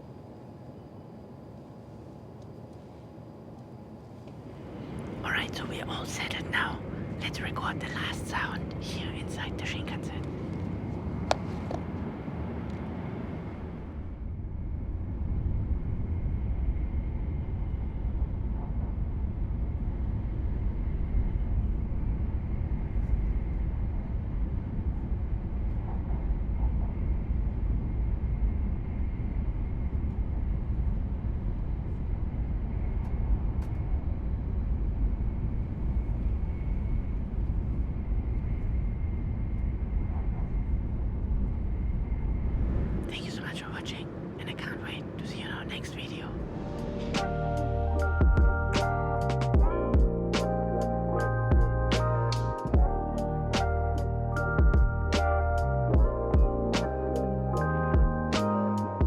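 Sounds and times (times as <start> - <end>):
faint high hum: 0.0 - 59.0
train cabin low rumble: 0.0 - 59.0.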